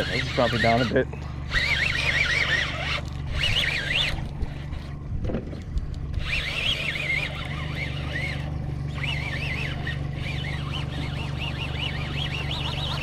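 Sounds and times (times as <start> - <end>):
high wavering whine: 0.0 - 13.0
outboard motor running: 0.0 - 13.0.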